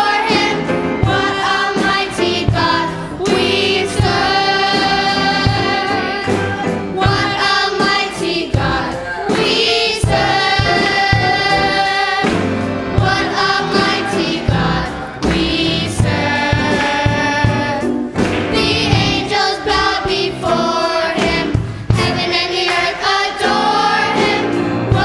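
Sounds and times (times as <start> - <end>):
gospel choir singing: 0.0 - 25.0
instrumental accompaniment: 0.0 - 25.0
sharp percussion hits: 0.0 - 25.0.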